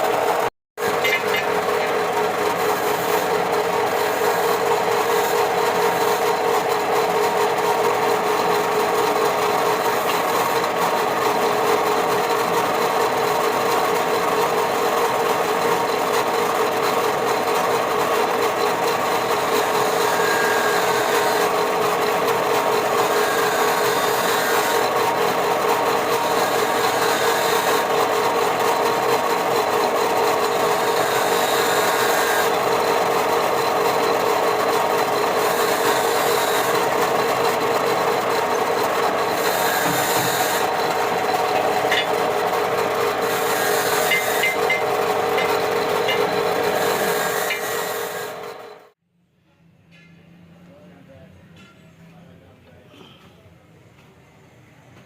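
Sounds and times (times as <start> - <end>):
power tool motor running: 0.0 - 49.0.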